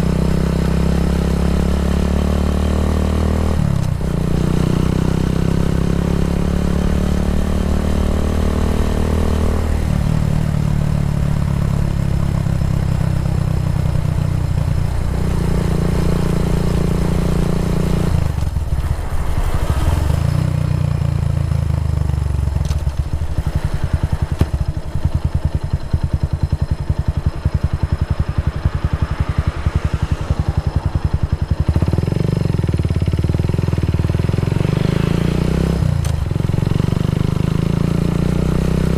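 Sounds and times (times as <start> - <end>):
single-cylinder motorcycle engine: 0.0 - 38.9.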